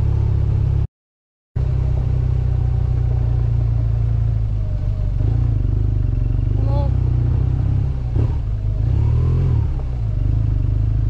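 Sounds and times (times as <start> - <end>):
motorcycle engine rumble: 0.0 - 0.9, 1.6 - 11.0.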